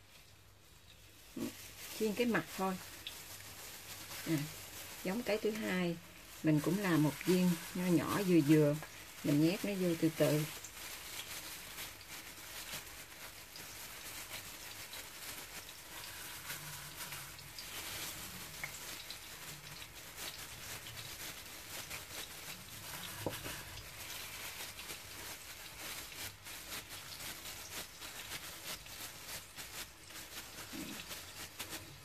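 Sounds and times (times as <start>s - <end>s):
plastic gloves crinkling: 0.0s - 32.0s
tofu sizzling in oil: 0.0s - 32.0s.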